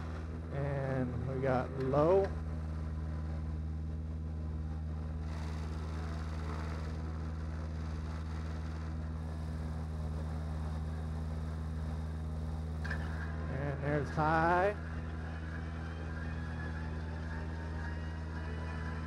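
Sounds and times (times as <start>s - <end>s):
gyroplane engine and propeller idling: 0.0s - 19.0s.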